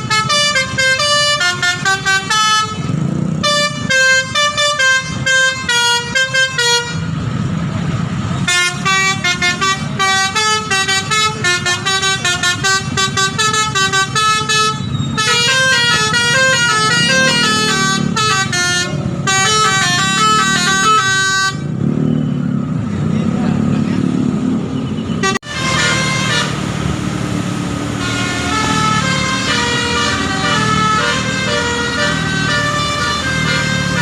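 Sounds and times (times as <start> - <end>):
musical bus horn playing a tune: 0.0 - 7.2, 8.4 - 21.7, 25.2 - 27.0, 27.9 - 34.0.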